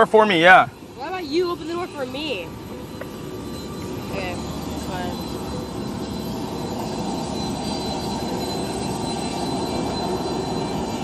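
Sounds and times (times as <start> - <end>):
faint high whine: 0.0 - 11.0
jet engine running: 0.0 - 11.0.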